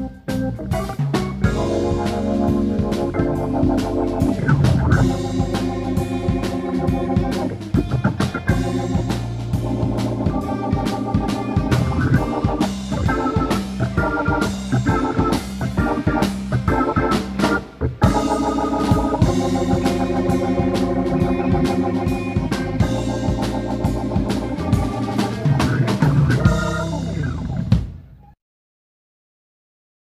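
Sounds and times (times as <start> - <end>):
live rock band playing: 0.0 - 28.3
organ-toned keyboard chords: 0.0 - 28.4.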